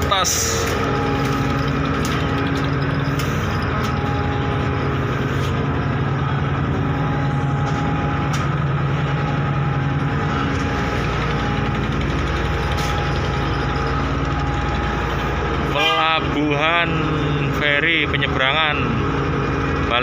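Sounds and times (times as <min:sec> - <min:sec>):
constant hum: 0:00.0 - 0:20.0
diesel engines droning: 0:00.0 - 0:20.0.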